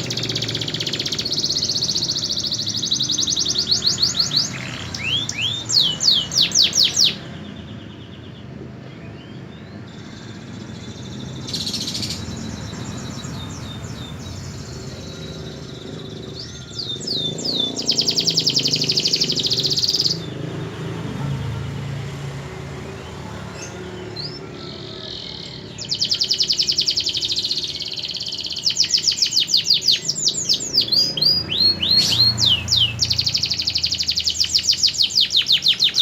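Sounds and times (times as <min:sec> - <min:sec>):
canary singing: 0:00.0 - 0:36.0.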